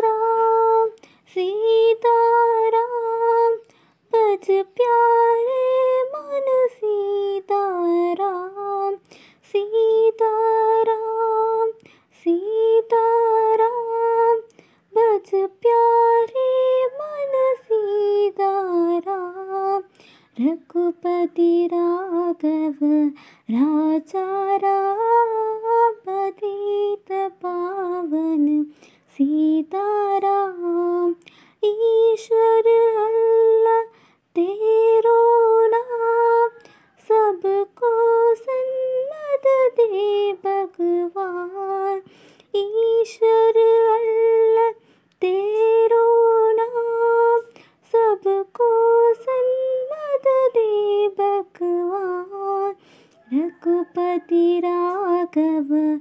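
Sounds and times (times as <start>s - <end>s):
woman singing unaccompanied: 0.0s - 56.0s.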